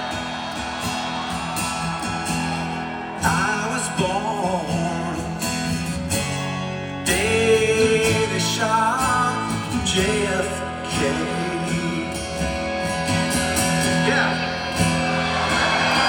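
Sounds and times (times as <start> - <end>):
electric guitar: 0.0 - 16.0
live rock band playing: 0.0 - 16.0.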